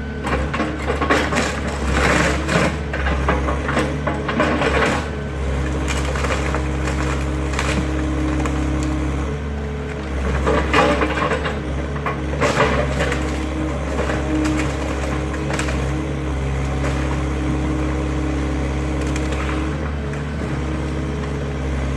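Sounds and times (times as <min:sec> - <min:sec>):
excavator diesel engine running: 0:00.0 - 0:21.9
timber crunching and cracking: 0:00.2 - 0:21.9.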